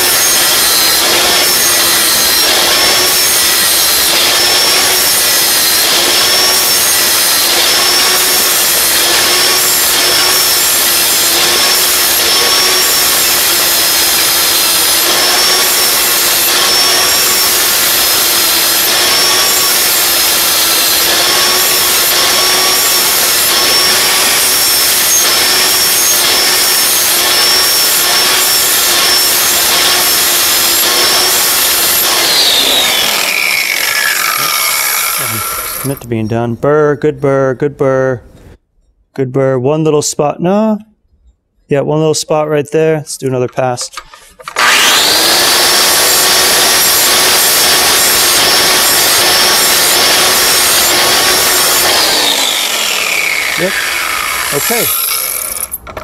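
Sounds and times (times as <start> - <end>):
grinder winding down: 0.0 - 36.1, 44.0 - 56.0
angle grinder grinding steel: 0.0 - 36.3, 43.8 - 56.0.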